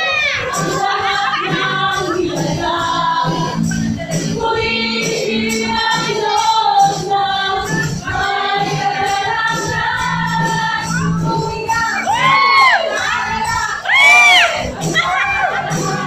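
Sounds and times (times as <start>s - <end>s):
amplified backing music: 0.0s - 16.0s
women singing into microphones: 0.0s - 16.0s.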